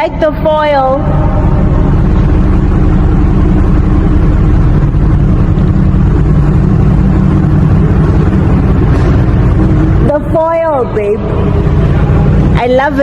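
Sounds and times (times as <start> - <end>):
car engine running with low rumble: 0.0 - 13.0.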